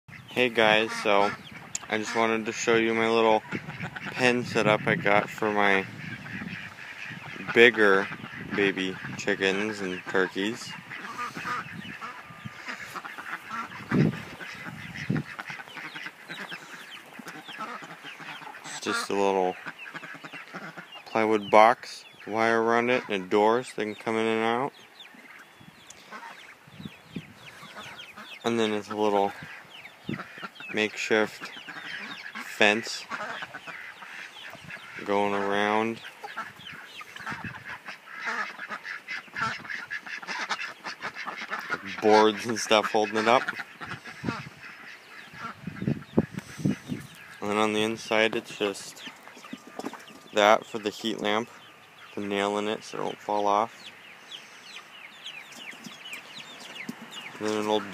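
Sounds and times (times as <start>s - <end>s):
chicks peeping: 0.1s - 57.9s
young poultry calling: 0.1s - 57.9s.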